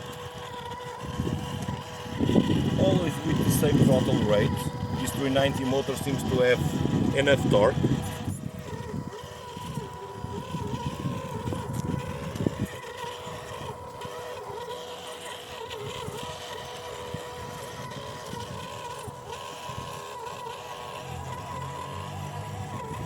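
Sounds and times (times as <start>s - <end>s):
toy truck motor whining: 0.0s - 23.0s.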